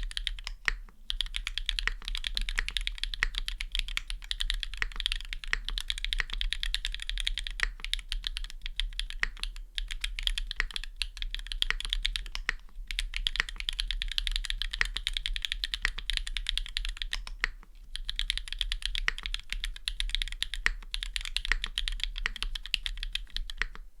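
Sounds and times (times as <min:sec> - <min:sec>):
mechanical keyboard typing: 0:00.0 - 0:23.9.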